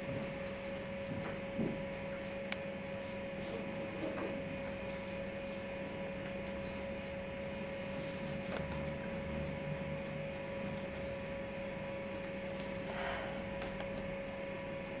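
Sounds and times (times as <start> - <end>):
electrical hum with steady tone: 0.0 - 15.0.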